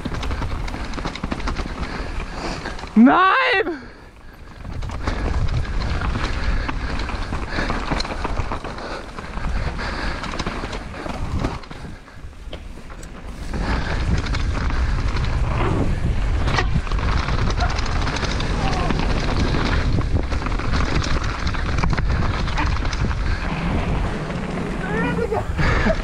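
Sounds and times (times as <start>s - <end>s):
small knocks and clicks from bike: 0.0s - 3.0s, 4.1s - 24.8s
bike tyre noise and rattle: 0.0s - 26.0s
wind buffeting microphone: 0.0s - 26.0s.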